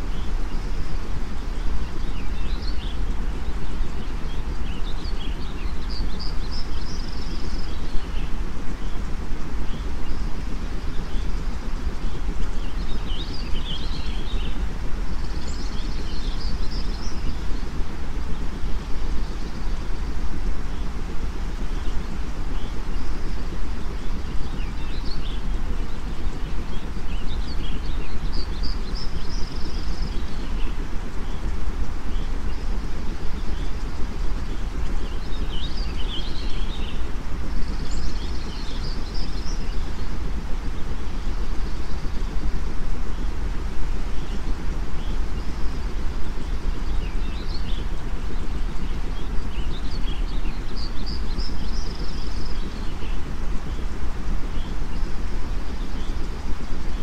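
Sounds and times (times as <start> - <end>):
low white noise: 0.0 - 57.0
small birds chirping: 0.0 - 57.0.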